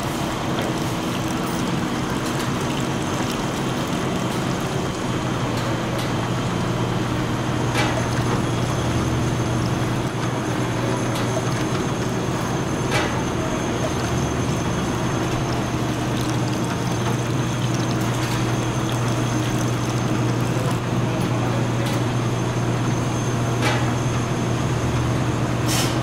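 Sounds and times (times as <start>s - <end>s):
bottling machinery hum and hiss: 0.0s - 26.0s.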